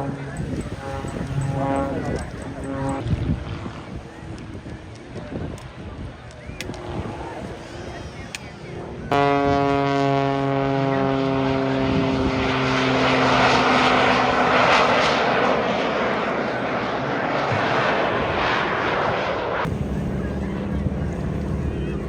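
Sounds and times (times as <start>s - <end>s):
propeller aircraft flying past: 0.0s - 5.2s, 6.7s - 22.0s.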